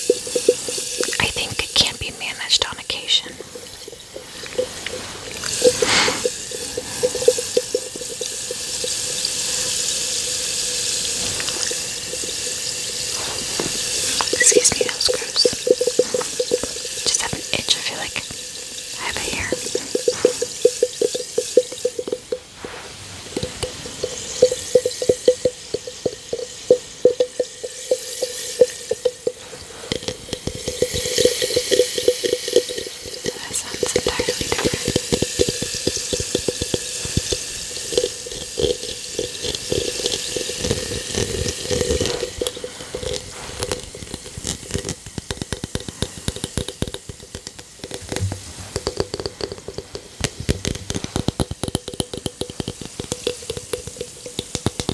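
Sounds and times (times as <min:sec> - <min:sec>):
bath bomb fizzing in water: 0:00.0 - 0:54.9.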